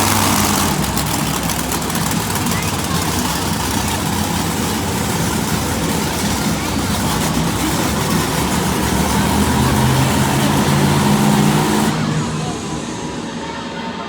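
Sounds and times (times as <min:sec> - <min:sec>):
monster truck engine revving: 0:00.0 - 0:13.7.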